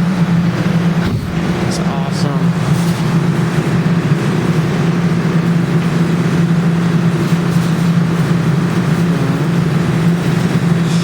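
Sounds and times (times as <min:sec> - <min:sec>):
claw machine humming: 0:00.0 - 0:11.0.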